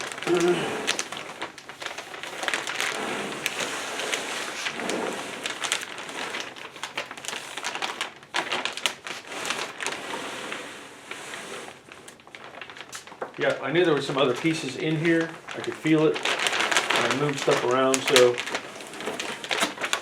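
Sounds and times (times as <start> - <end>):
cardboard and packing rustling: 0.0 - 20.0.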